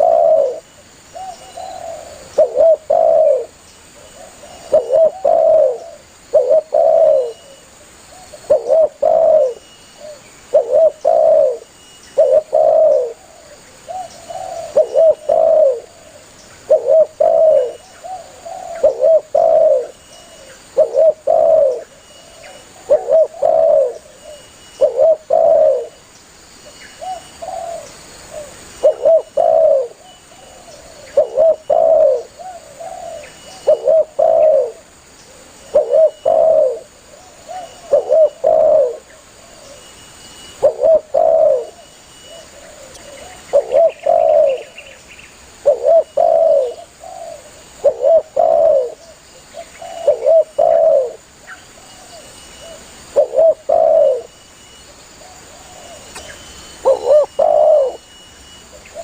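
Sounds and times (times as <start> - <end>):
dove cooing: 0.0 - 26.0, 26.6 - 45.0, 45.6 - 59.0.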